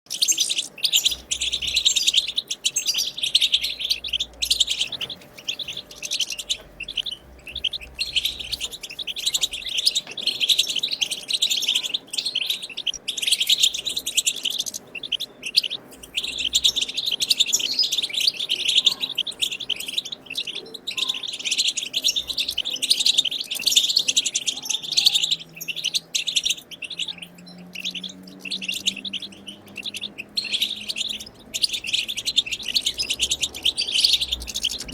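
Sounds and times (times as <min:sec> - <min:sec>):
goldfinch twittering song: 0:00.1 - 0:34.9.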